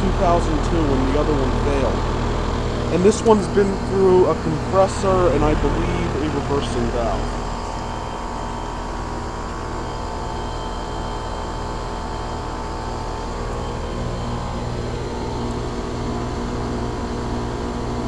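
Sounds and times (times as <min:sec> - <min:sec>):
compressor hum: 0:00.0 - 0:18.0
condenser fan rushing: 0:00.0 - 0:18.0.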